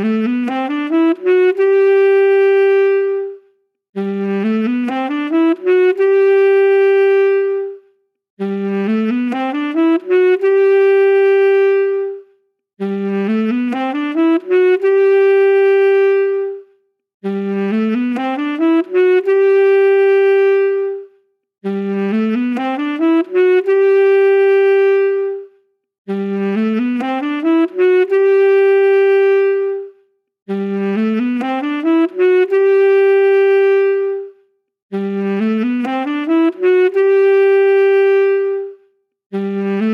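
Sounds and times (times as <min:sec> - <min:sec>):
saxophone phrase: 0:00.0 - 0:39.9.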